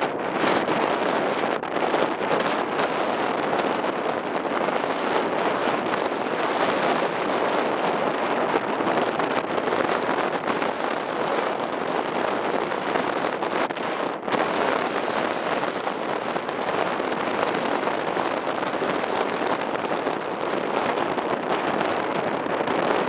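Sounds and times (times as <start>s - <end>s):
strong wind on microphone: 0.0s - 23.0s.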